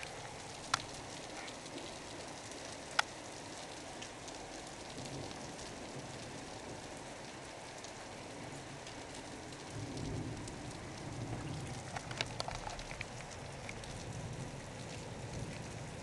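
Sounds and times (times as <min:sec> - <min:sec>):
heavy rain on rooftops: 0:00.0 - 0:16.0.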